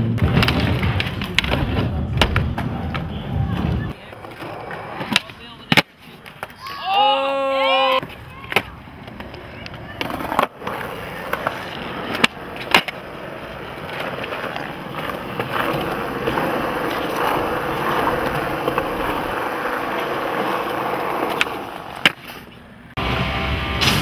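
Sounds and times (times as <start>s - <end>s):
skateboard clacks: 0.0s - 6.6s, 8.0s - 22.8s
skateboard wheels rolling on concrete: 0.0s - 24.0s.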